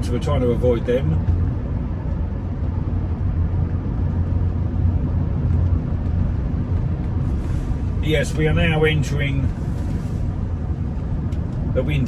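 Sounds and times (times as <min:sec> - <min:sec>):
car interior engine and road noise: 0:00.0 - 0:12.0.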